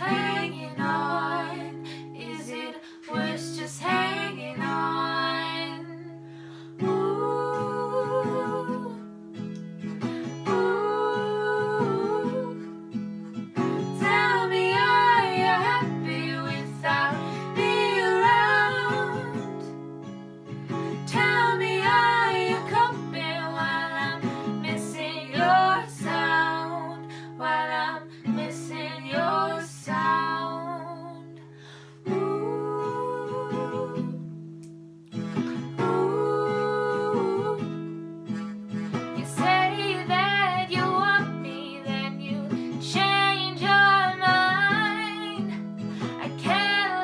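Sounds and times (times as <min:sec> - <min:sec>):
woman singing: 0:00.0 - 0:06.2, 0:06.8 - 0:09.1, 0:10.4 - 0:12.8, 0:13.9 - 0:19.8, 0:21.0 - 0:34.4, 0:35.6 - 0:38.0, 0:38.9 - 0:47.0
acoustic guitar: 0:00.0 - 0:47.0.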